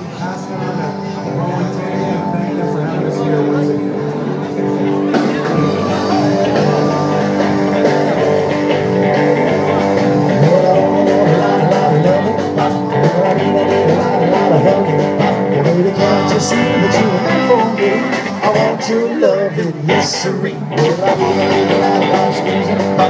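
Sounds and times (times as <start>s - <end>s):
live rock and roll band: 0.0s - 23.0s.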